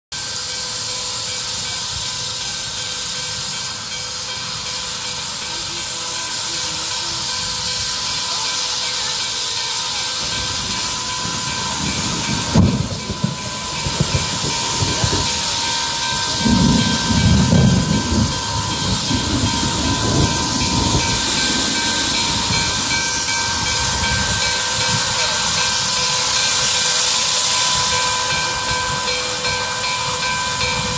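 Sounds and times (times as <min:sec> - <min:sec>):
steam locomotive venting steam: 0:00.1 - 0:30.9.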